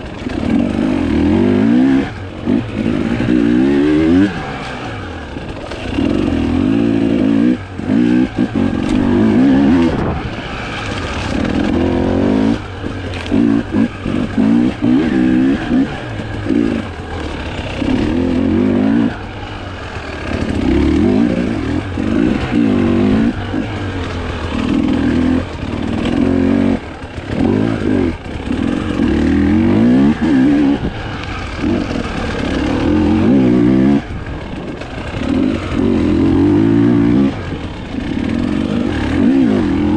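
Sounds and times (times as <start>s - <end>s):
dirt bike engine revving hard: 0.0s - 39.9s.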